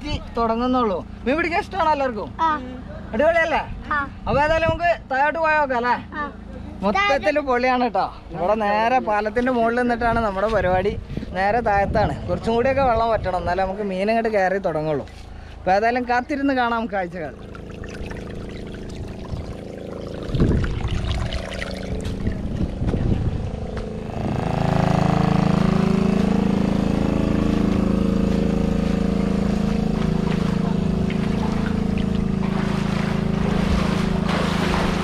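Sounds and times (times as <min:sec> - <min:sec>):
water pump motor running: 0:00.0 - 0:35.0.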